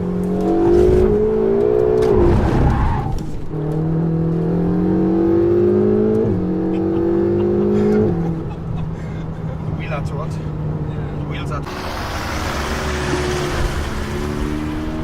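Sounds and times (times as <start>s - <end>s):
car engine accelerating with upshifts: 0.0s - 15.0s.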